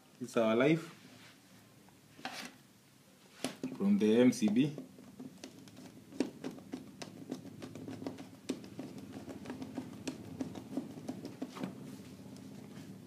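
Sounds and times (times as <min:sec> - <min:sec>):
steady low hum: 0:01.4 - 0:13.0.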